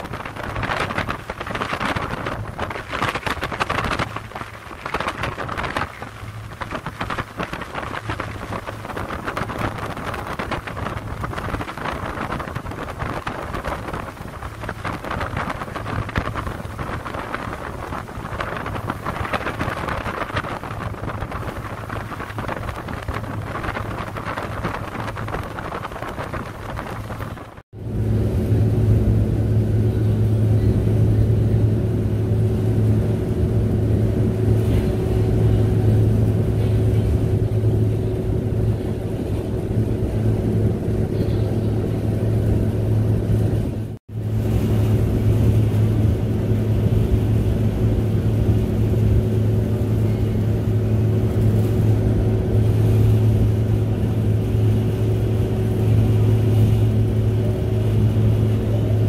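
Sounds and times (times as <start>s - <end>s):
low engine hum: 0.0s - 59.0s
rushing water: 0.0s - 59.0s
wind gusting across microphone: 0.0s - 59.0s.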